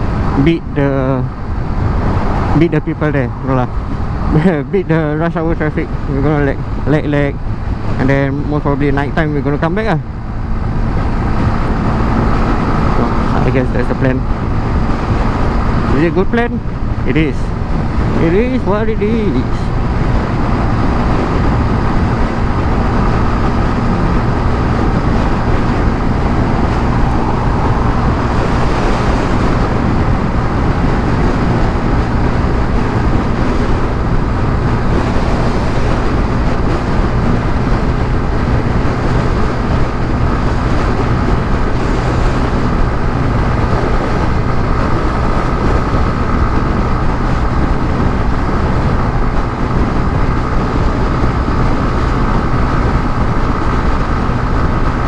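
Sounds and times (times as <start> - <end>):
motorcycle engine drone: 0.0 - 55.0
wind noise on microphone: 0.0 - 55.0.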